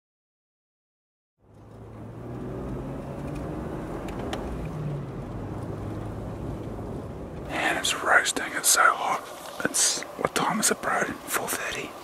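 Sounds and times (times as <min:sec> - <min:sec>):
vehicle engine hum: 0:01.4 - 0:12.0.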